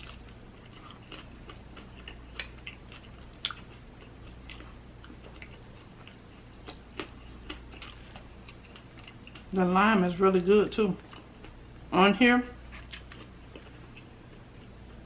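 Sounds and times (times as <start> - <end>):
close-miked chewing: 0.0 - 9.6, 11.0 - 11.6, 12.6 - 15.0.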